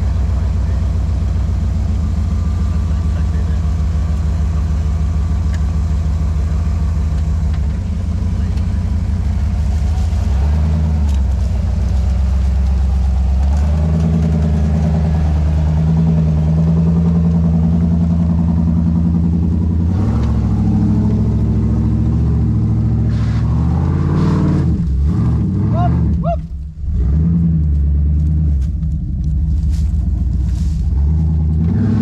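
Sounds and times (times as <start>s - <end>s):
engine running under load: 0.0s - 32.0s.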